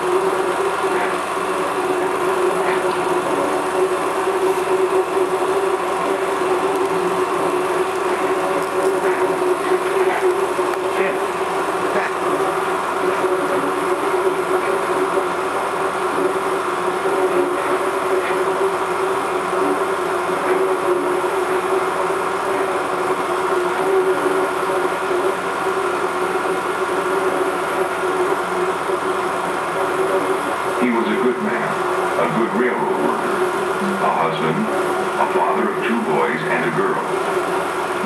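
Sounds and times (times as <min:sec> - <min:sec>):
mechanical drone: 0:00.0 - 0:38.0.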